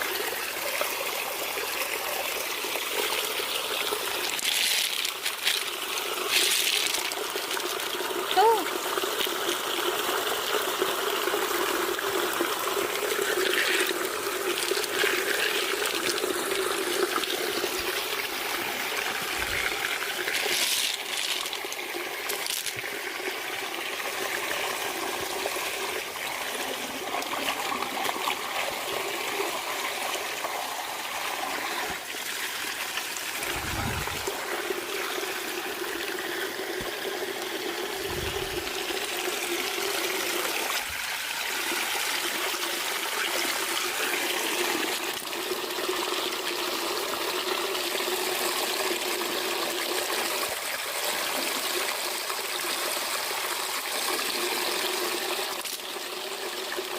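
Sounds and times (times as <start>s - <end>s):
water running and trickling: 0.0s - 56.9s.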